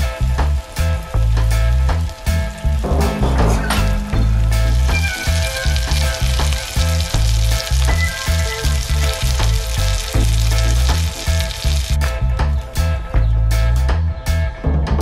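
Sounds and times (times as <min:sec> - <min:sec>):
fish frying in butter: 0:00.0 - 0:12.8
background music with bass: 0:00.0 - 0:15.0.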